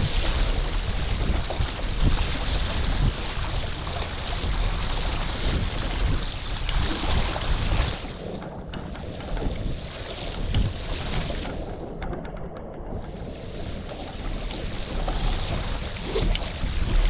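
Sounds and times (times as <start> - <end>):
gusty wind buffeting microphone: 0.0 - 17.0
water rushing alongside boat: 0.0 - 17.0.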